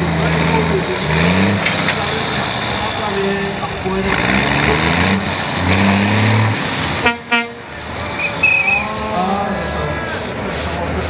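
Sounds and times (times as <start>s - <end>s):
truck engine revving and labouring: 0.0s - 11.0s.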